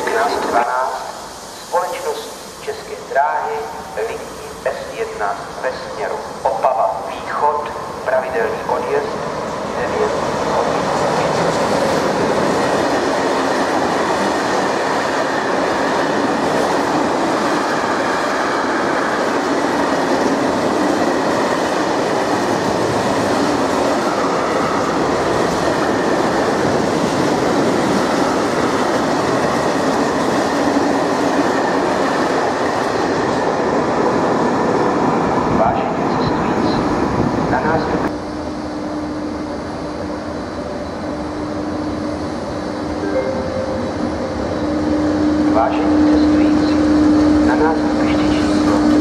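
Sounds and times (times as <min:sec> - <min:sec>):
train wheels rolling on rail: 0:00.0 - 0:49.0.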